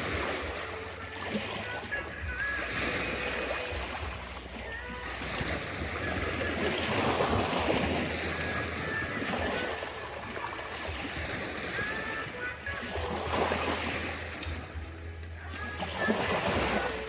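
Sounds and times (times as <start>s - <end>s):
waves washing: 0.0s - 17.0s
wind noise: 0.0s - 17.0s.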